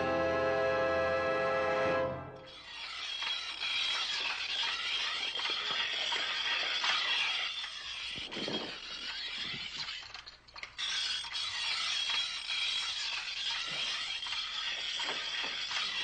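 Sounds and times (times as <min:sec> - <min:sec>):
blade screeching on grindstone: 0:02.5 - 0:16.0.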